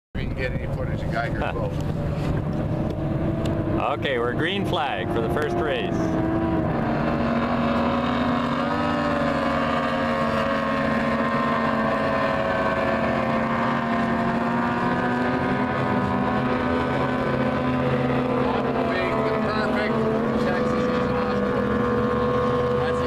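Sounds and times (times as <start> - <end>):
wind on microphone: 0.2 - 20.3
race boat engines: 0.2 - 23.0.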